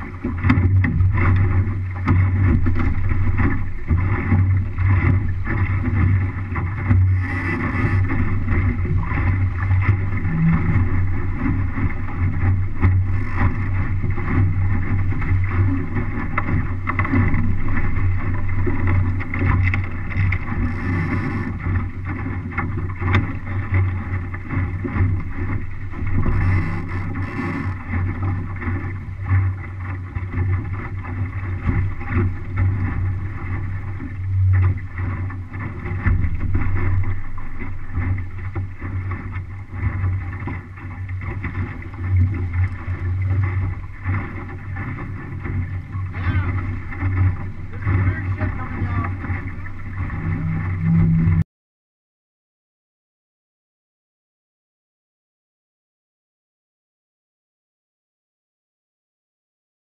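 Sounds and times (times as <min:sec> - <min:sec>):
water rushing along hull: 0:00.0 - 0:51.4.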